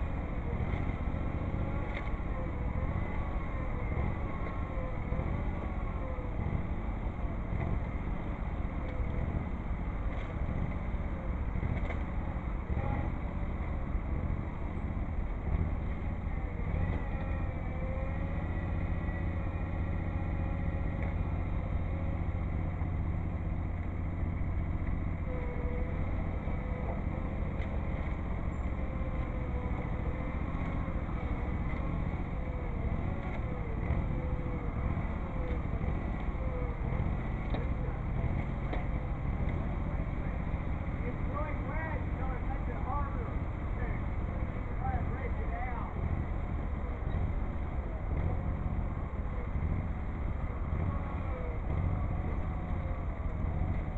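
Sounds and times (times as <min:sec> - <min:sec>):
tractor engine droning: 0:00.0 - 0:53.9.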